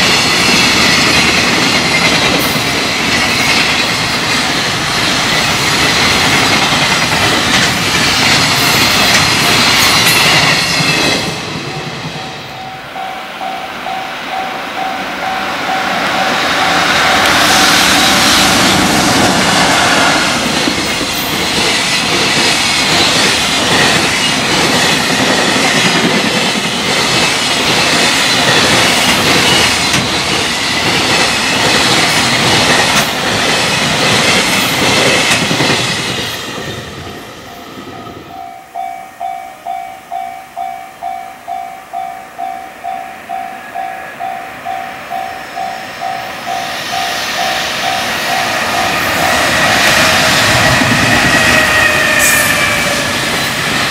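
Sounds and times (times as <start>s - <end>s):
crossing warning bell ringing: 0.0s - 35.6s, 36.6s - 53.9s
approaching train: 0.0s - 53.9s
freight train passing: 0.0s - 53.9s.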